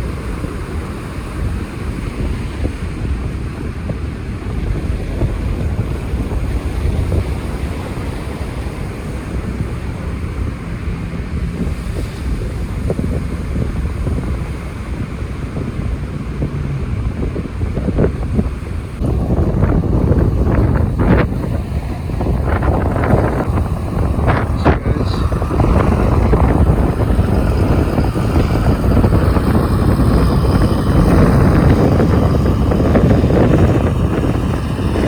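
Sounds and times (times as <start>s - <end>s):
surf washing in: 0.0s - 35.0s
wind buffeting microphone: 0.0s - 35.0s.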